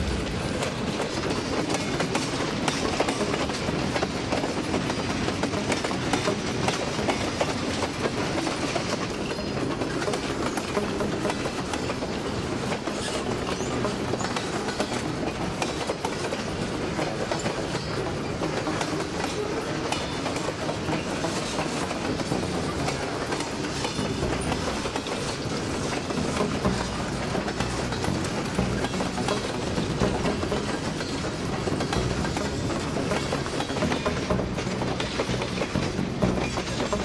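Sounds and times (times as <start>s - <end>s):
train wheels rumbling on rails: 0.0s - 37.0s
wheels clicking over rail joints: 0.0s - 37.0s.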